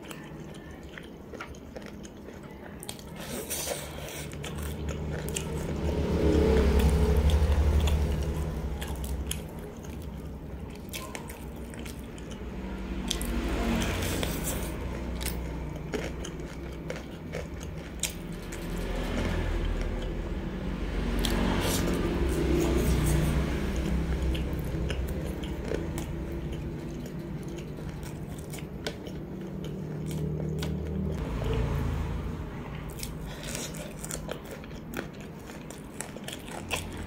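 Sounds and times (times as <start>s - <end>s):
chewing crispy food: 0.0s - 32.1s, 32.7s - 37.0s.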